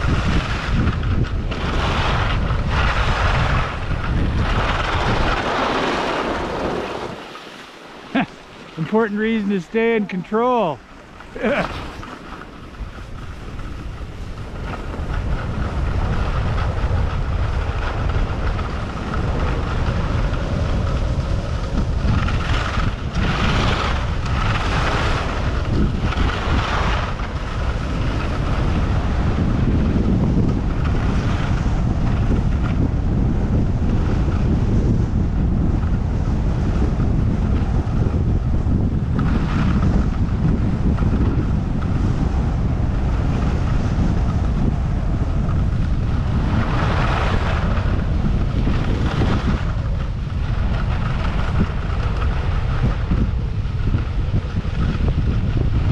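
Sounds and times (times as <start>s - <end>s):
wind on camera microphone: 0.0s - 55.9s.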